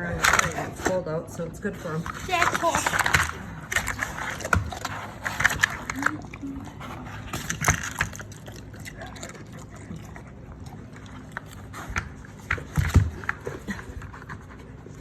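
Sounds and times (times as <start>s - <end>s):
dog mouthing puzzle toy: 1.8s - 15.0s.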